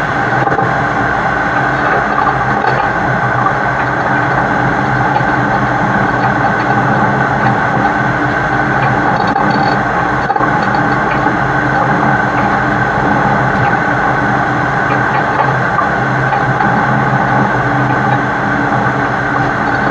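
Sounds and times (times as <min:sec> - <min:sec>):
road noise: 0:00.0 - 0:19.9
truck diesel engine droning: 0:00.0 - 0:19.9.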